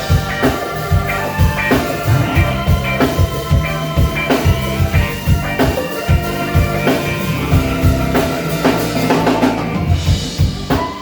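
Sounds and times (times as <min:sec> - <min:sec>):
bass line: 0:00.0 - 0:10.7
sustained instrumental chords: 0:00.0 - 0:10.9
drum kit beat: 0:00.0 - 0:11.0.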